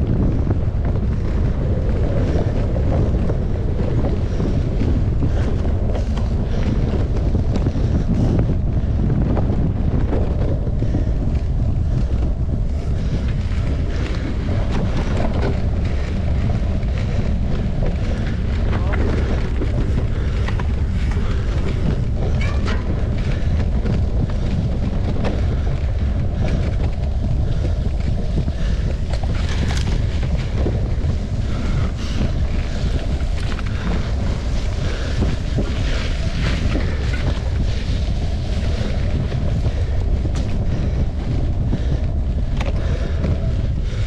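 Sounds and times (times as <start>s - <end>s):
bike clicking and rattling: 0.0s - 44.0s
wind buffeting microphone: 0.0s - 44.0s.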